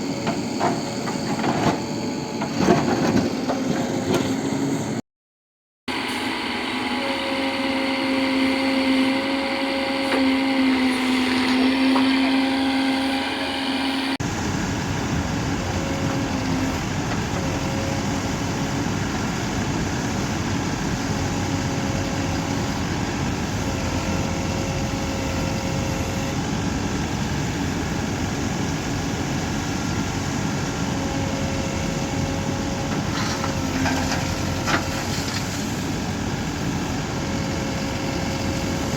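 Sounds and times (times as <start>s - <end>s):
diesel engine running: 5.9s - 38.9s.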